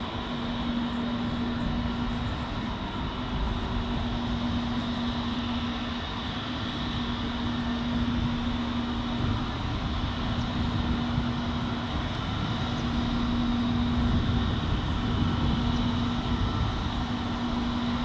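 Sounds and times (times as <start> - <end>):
jet engines humming: 0.0 - 18.0.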